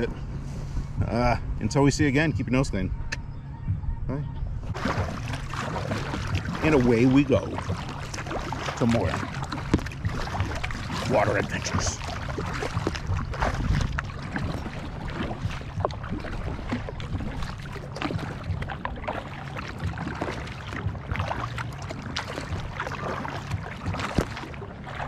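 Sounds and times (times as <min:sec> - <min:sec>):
steady low rumble: 0:00.0 - 0:25.0
paddle strokes splashing water: 0:04.7 - 0:25.0.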